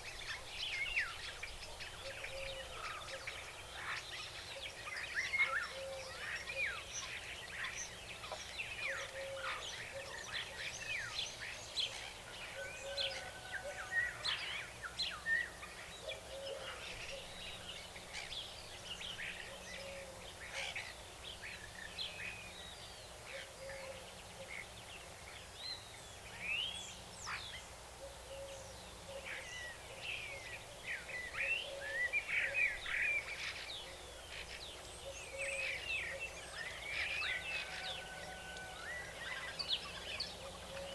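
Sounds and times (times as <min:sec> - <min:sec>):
faint background hiss: 0:00.0 - 0:40.9
songbirds chirping and singing: 0:00.0 - 0:40.9.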